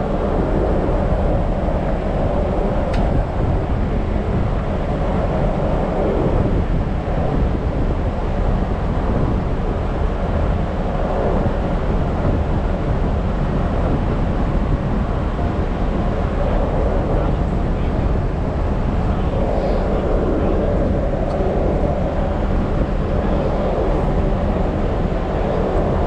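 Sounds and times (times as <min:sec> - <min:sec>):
ferry engine rumble: 0:00.0 - 0:26.0
wind buffeting microphone: 0:00.0 - 0:26.0.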